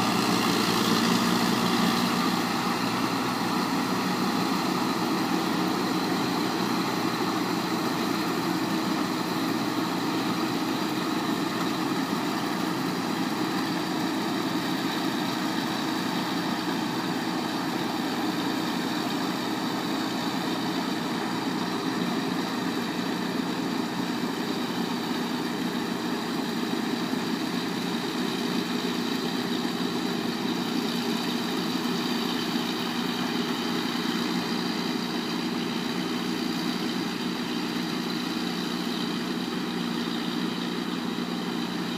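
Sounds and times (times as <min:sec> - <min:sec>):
combine harvester engine running: 0:00.0 - 0:41.9.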